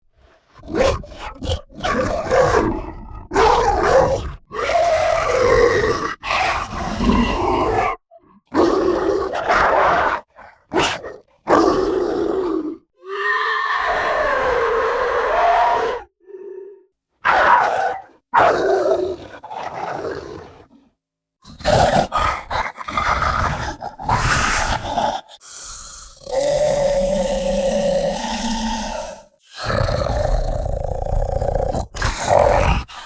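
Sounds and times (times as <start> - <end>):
monster growls and roars: 0.6 - 20.7, 21.5 - 33.0.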